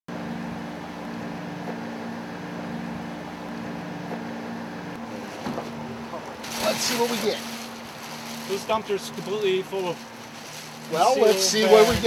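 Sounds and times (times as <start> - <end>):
mechanical hum: 0.1 - 12.0.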